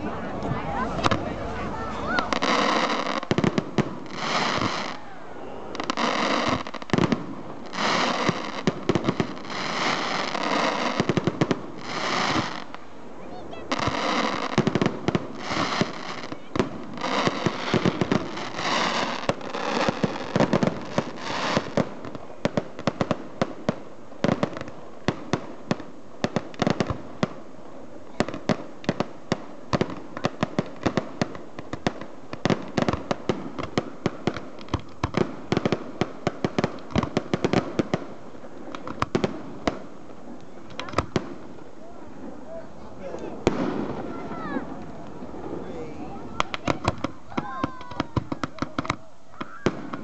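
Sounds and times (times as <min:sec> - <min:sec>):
firework crackling bursts: 0:00.0 - 0:50.0.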